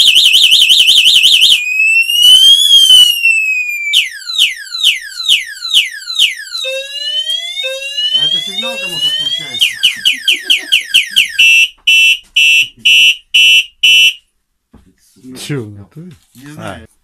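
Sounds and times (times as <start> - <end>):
scooter alarm siren: 0.0 - 14.2.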